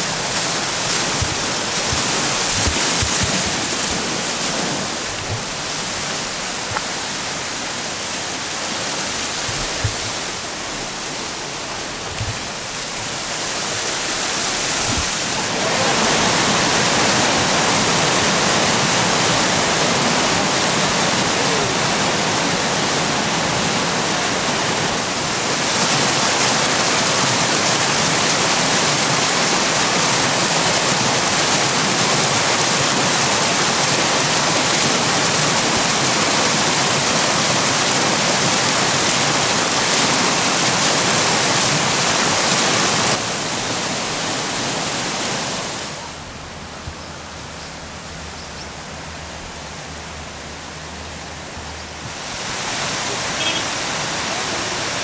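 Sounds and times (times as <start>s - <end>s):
water rushing over a weir: 0.0s - 55.0s.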